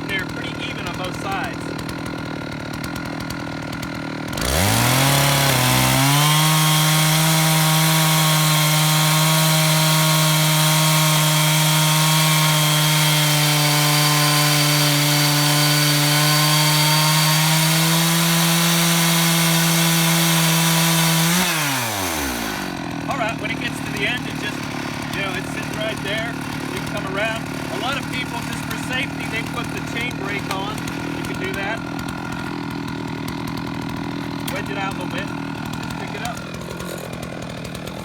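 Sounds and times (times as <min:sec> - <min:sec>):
chainsaw cutting log: 0:00.0 - 0:38.0.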